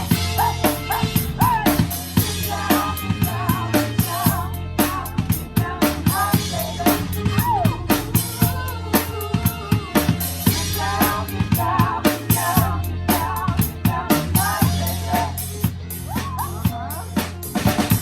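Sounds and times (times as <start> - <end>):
drum kit groove: 0.0 - 18.0
rock band playing: 0.0 - 18.0.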